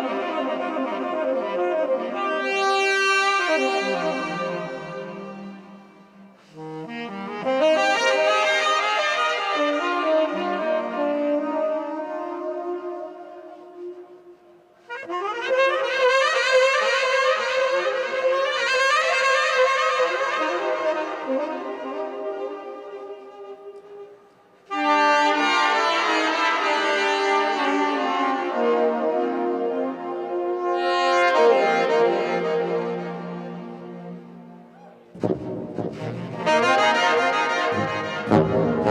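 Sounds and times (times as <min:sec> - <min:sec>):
saxophone: 0:00.0 - 0:38.9.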